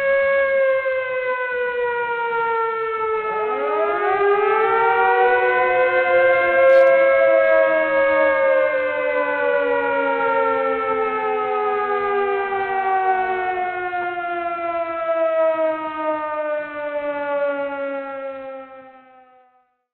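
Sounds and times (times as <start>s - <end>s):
siren-like wail gliding downward: 1.1s - 19.4s.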